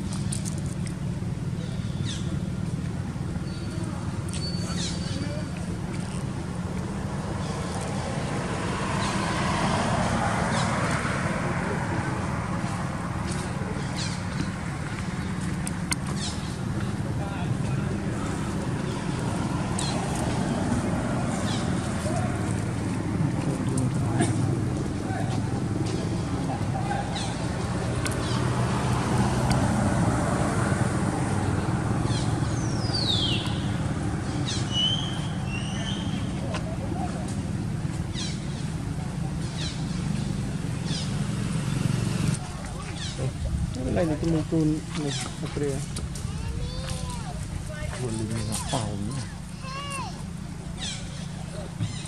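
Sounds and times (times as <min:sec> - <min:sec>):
motor vehicle passing by: 0:00.0 - 0:52.0
traffic engine hum: 0:00.0 - 0:52.0.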